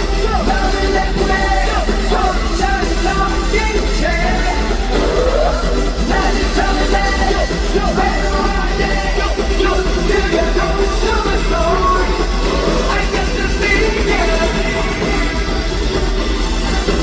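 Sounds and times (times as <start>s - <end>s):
live pop music over speakers: 0.0s - 17.0s
people singing: 0.0s - 17.0s.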